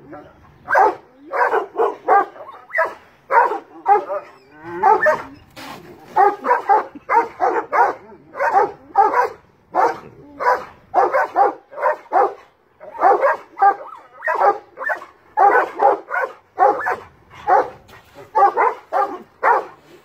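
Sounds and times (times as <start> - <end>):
large dogs barking: 0.0 - 20.0.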